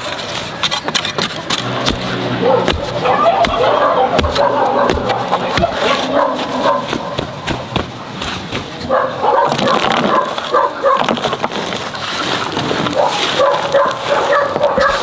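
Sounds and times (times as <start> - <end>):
soil and gravel scraping: 0.0 - 15.0.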